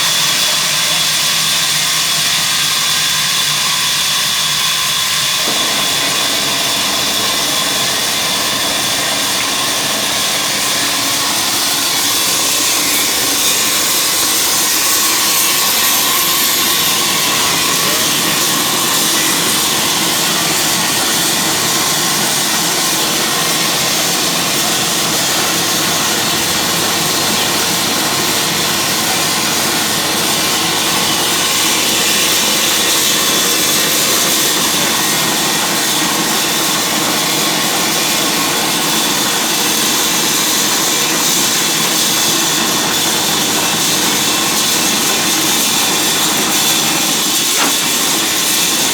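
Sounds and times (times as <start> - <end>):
wood-cutting machine running: 0.0 - 48.9.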